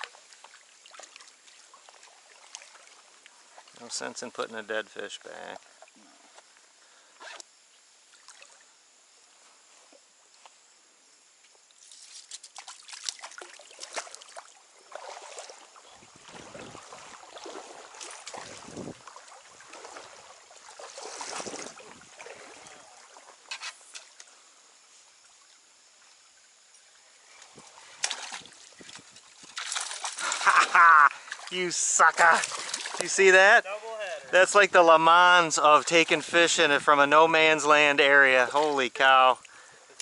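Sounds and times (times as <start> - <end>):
water splashes: 0.0 - 6.4, 8.0 - 8.7, 11.8 - 24.5, 25.2 - 40.0
stream water trickling: 0.0 - 40.0.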